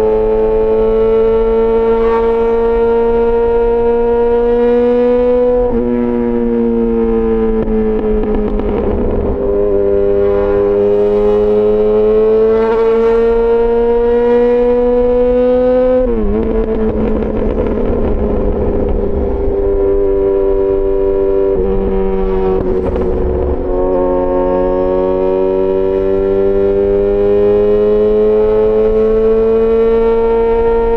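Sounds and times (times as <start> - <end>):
motorcycle engine revving high: 0.0 - 30.9.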